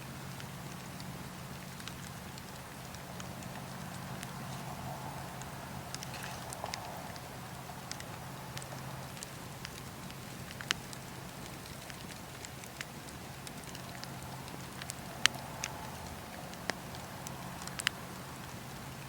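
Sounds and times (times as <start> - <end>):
steady low hum: 0.0 - 17.2
campfire crackling and popping: 0.0 - 19.0.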